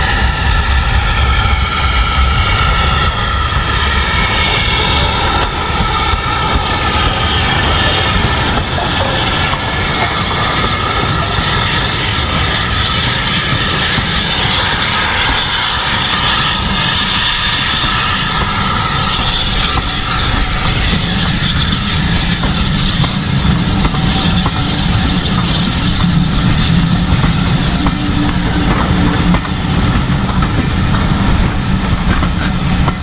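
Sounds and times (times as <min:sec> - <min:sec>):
train wheels running over rails: 0:00.0 - 0:33.0
steam locomotive exhaust barking: 0:01.7 - 0:33.0.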